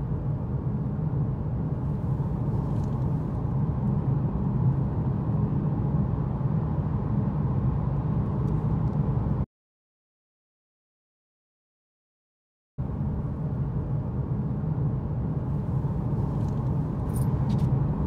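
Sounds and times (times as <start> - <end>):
car engine and tyre rumble: 0.0 - 9.5, 12.8 - 18.0.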